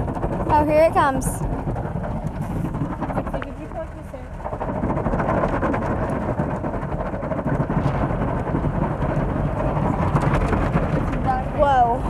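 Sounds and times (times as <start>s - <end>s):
car wash equipment rumbling: 0.0s - 12.0s.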